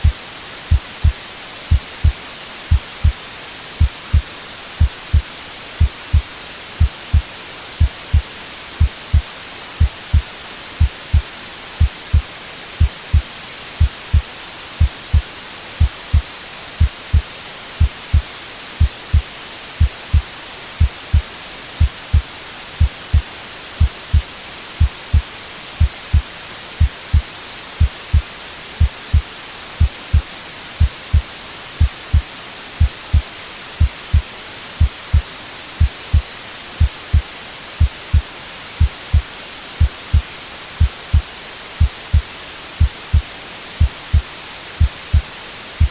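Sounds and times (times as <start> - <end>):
heartbeat thumps: 0.0 - 3.2, 3.8 - 22.2, 22.8 - 31.2, 31.8 - 45.9
white noise hiss: 0.0 - 45.9.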